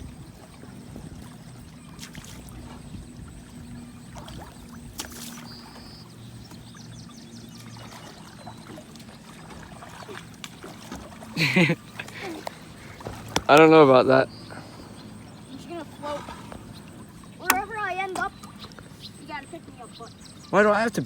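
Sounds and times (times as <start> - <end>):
water drips: 0.0 - 19.8
water trickling and splashing: 0.0 - 21.0.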